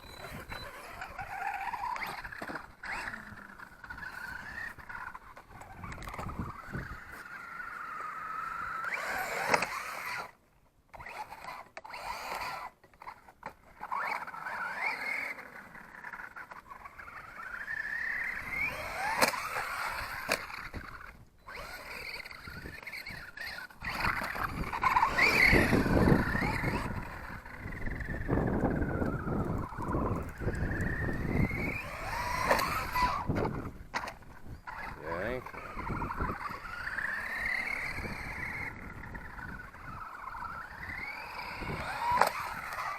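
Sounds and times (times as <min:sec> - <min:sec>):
toy truck motor whining: 0:00.0 - 0:42.9.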